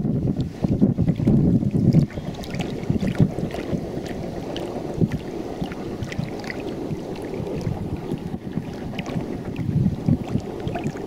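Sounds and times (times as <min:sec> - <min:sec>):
floodwater lapping and sloshing: 0:00.0 - 0:11.0
wind buffeting microphone: 0:00.0 - 0:11.0
small splashes: 0:01.1 - 0:11.0.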